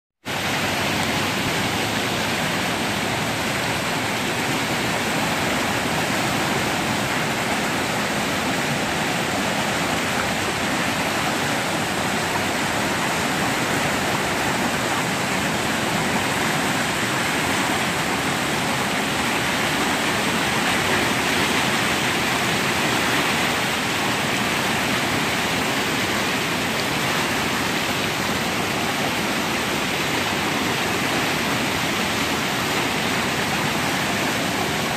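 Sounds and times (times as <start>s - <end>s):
river rapids rushing: 0.2s - 34.9s.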